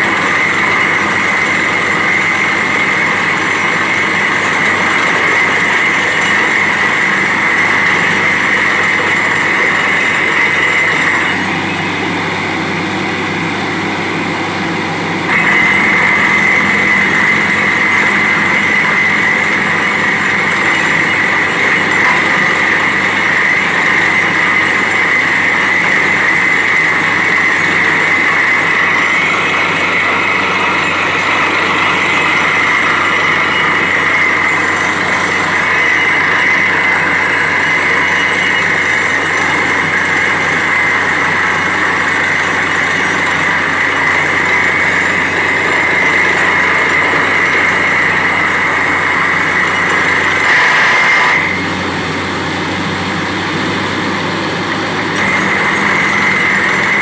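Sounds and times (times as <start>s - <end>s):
drilling rig running: 0.0s - 57.0s
high steady whine: 0.0s - 57.0s.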